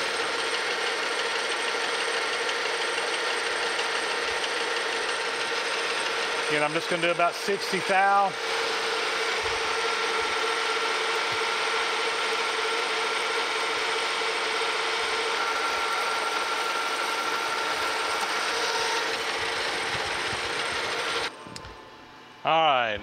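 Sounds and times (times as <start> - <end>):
metal lathe running: 0.0 - 21.4
lathe drive high whine: 0.0 - 22.6.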